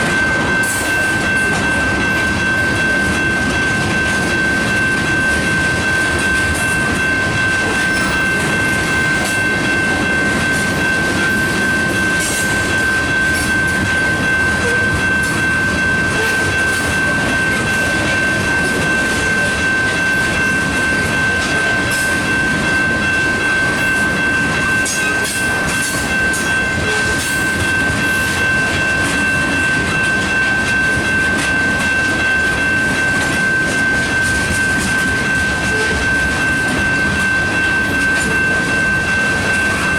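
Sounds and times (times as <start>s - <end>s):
freight train rumbling and clattering: 0.0s - 39.9s.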